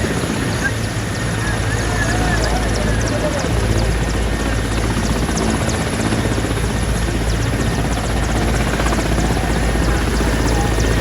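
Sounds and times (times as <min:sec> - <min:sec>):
helicopter running: 0:00.0 - 0:11.0.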